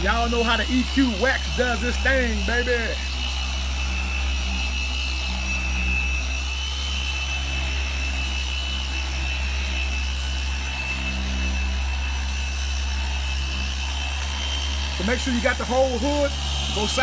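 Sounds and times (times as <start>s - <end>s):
small motor whining and humming: 0.0s - 17.0s.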